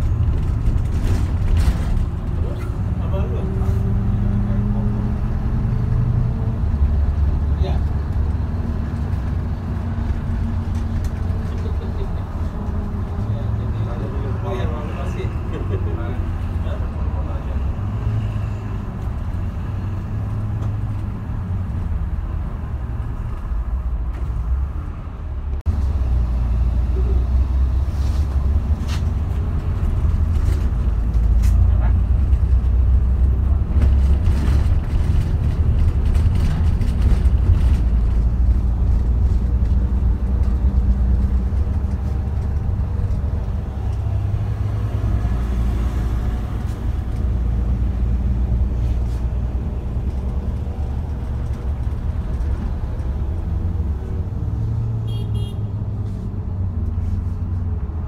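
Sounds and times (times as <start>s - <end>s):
engine and road rumble: 0.0s - 58.0s.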